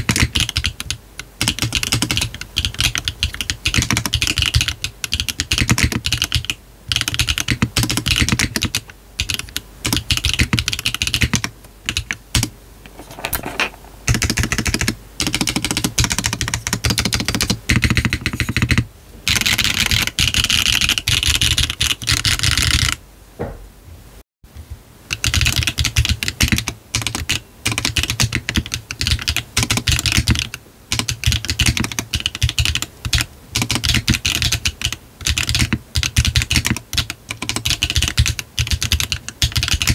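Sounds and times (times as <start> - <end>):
fast typing on mechanical keyboard: 0.0 - 12.5, 14.1 - 23.0, 25.1 - 39.9.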